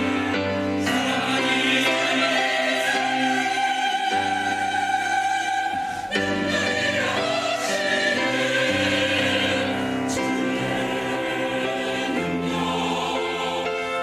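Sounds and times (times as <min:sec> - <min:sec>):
church choir singing a hymn: 0:00.0 - 0:14.0.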